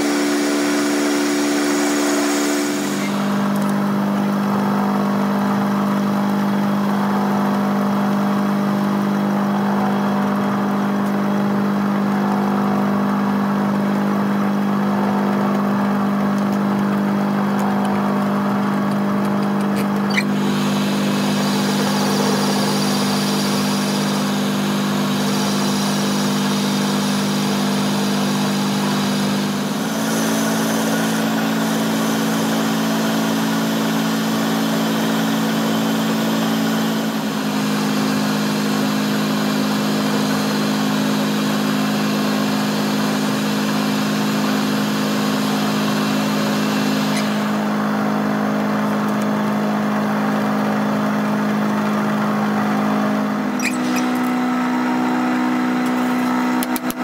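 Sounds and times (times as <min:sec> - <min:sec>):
metal lathe running: 0:00.0 - 0:57.0.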